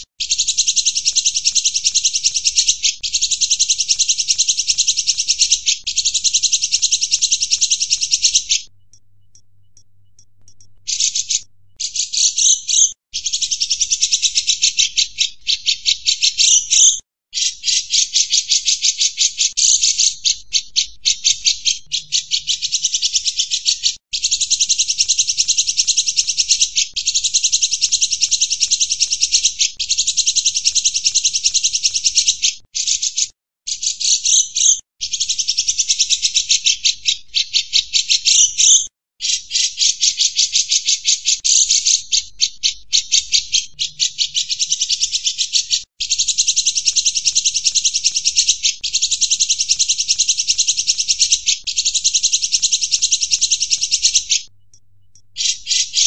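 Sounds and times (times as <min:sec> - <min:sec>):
bird chattering trill: 0:00.0 - 0:56.0.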